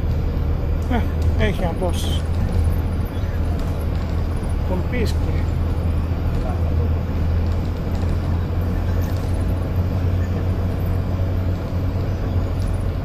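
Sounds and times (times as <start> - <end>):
bus engine hum: 0.0 - 13.0
road and tyre noise: 0.0 - 13.0.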